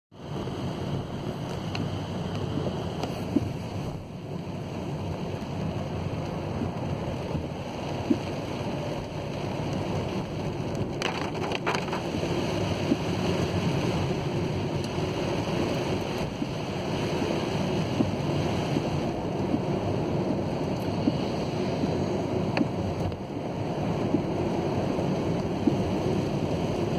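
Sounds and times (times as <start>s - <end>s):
car road noise on wet road: 0.1s - 26.9s.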